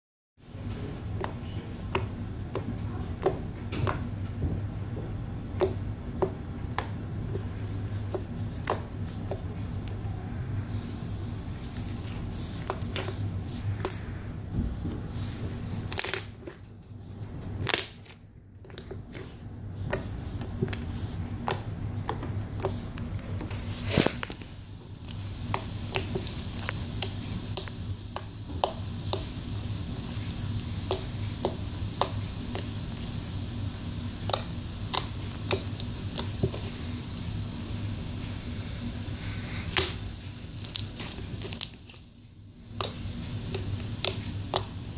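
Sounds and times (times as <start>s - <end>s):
steady low hum: 0.4s - 44.9s.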